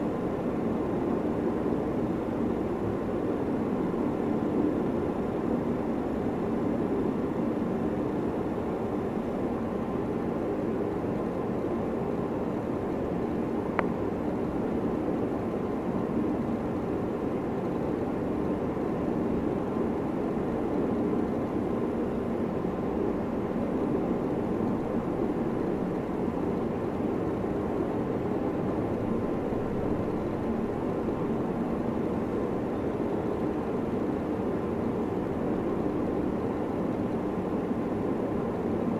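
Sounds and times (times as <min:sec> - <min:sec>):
low rumbling background noise: 0:00.0 - 0:38.9.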